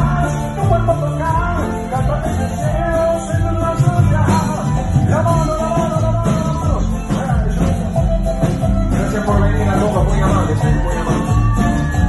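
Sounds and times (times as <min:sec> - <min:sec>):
bass: 0:00.0 - 0:12.0
percussion: 0:00.0 - 0:12.0
sliding melody line: 0:00.0 - 0:12.0.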